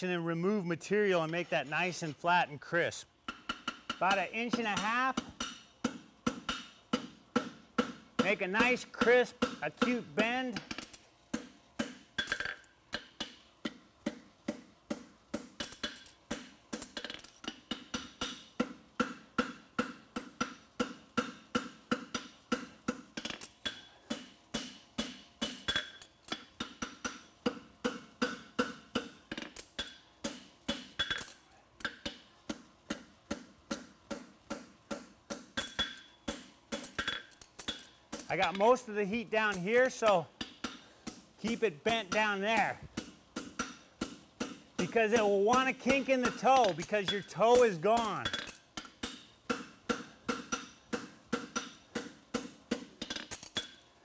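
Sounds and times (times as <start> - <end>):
hammer striking metal on anvil: 3.3 - 38.8, 39.4 - 53.8.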